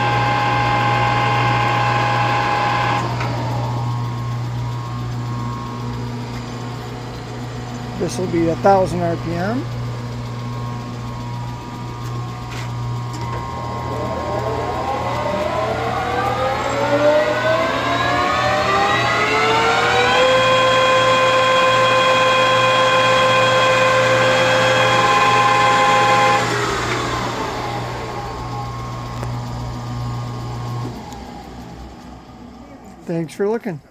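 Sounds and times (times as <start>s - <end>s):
lathe gear whine: 0.0s - 33.8s
steady low hum: 0.0s - 33.9s.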